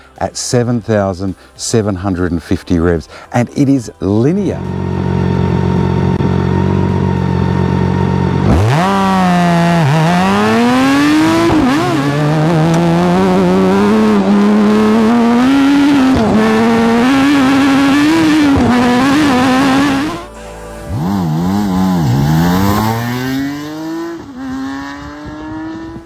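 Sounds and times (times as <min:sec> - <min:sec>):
motorcycle engine idling and accelerating: 0:03.8 - 0:26.0.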